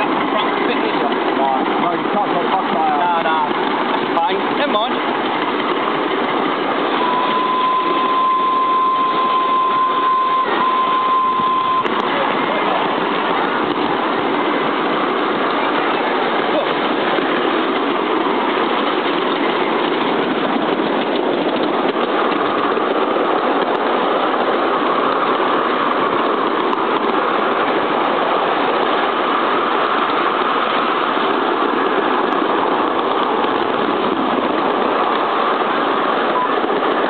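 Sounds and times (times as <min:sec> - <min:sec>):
steam locomotive chuffing: 0:00.0 - 0:37.0
wheels running on track: 0:00.0 - 0:37.0.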